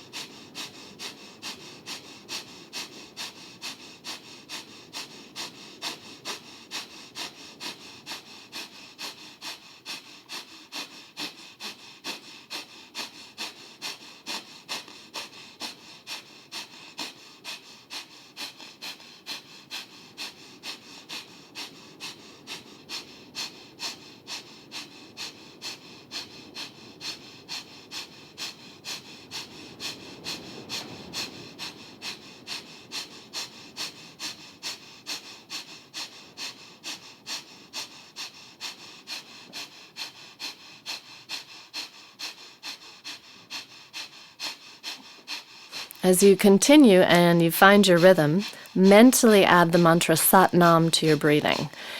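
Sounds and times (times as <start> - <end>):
rapid breathing through the nose: 0.0 - 50.8, 51.5 - 51.9.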